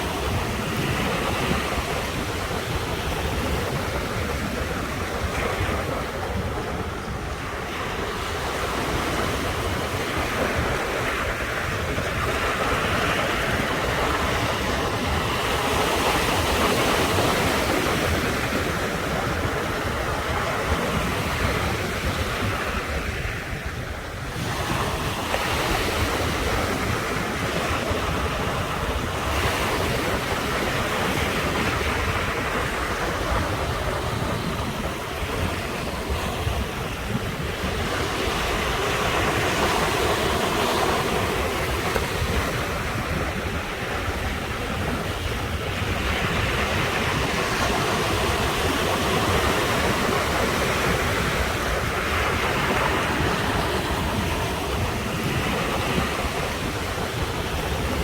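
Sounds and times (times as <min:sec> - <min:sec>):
waves breaking ashore: 0:00.0 - 0:58.0
wind rumbling on microphone: 0:00.0 - 0:58.0.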